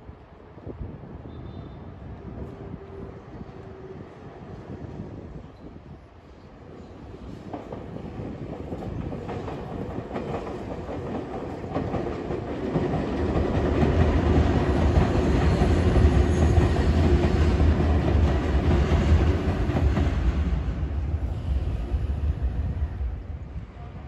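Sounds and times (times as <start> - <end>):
train running on tracks: 0.0 - 24.0.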